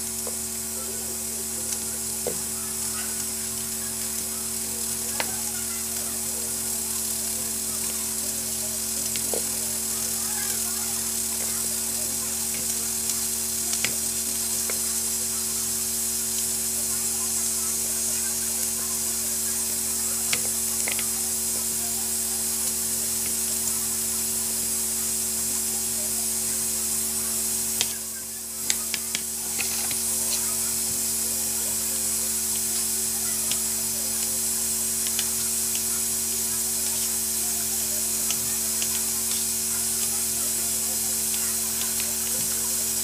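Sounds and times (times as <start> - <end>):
pot boiling with hiss and hum: 0.0 - 43.0.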